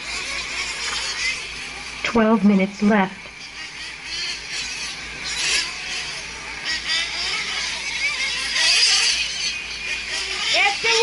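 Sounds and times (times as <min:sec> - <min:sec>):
rc truck engines whining: 0:00.0 - 0:02.3, 0:03.4 - 0:11.0.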